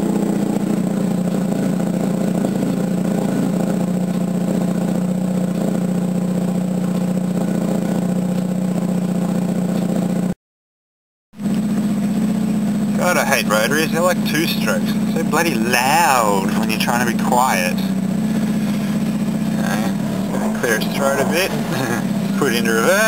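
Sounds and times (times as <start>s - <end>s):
rotary engine idling: 0.0s - 10.4s, 11.4s - 23.0s.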